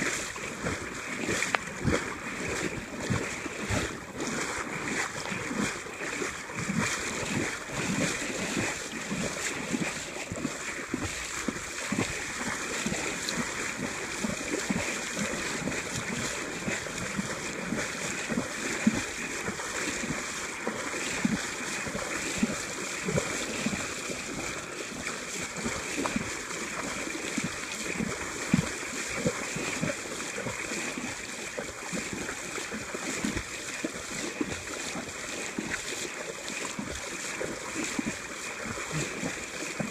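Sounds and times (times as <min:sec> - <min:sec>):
river current rushing: 0:00.0 - 0:39.9
splashes of wading: 0:00.0 - 0:39.9.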